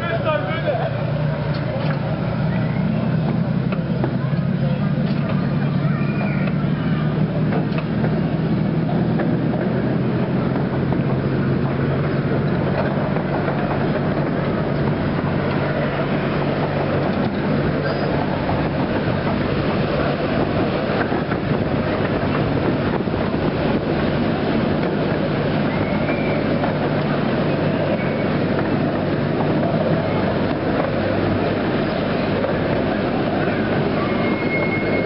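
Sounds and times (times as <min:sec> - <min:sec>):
miniature train rumbling: 0:00.0 - 0:35.0.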